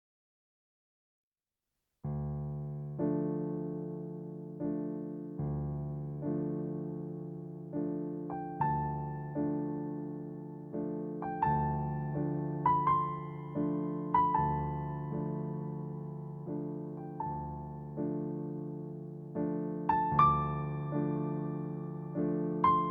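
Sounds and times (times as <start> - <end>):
slow soft piano music: 2.0 - 22.9.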